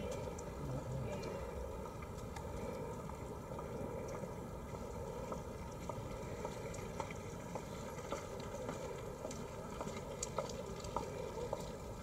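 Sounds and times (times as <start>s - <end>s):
faint clicks: 0.0s - 11.8s
low rumble and hiss: 0.0s - 12.0s.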